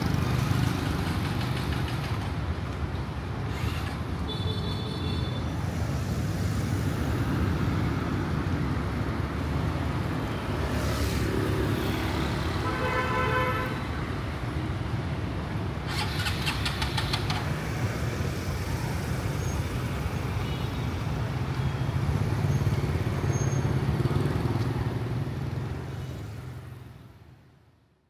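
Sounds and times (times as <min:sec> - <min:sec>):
low engine rumble of traffic: 0:00.0 - 0:28.0.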